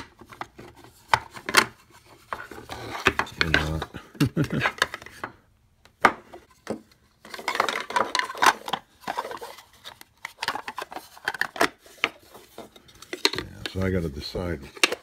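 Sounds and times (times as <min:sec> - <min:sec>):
plastic rubbing and scraping: 0:00.0 - 0:05.3, 0:06.4 - 0:15.0.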